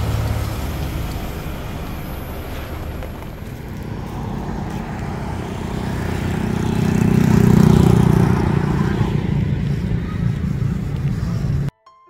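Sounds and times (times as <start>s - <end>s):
car driving past: 0.0s - 11.7s.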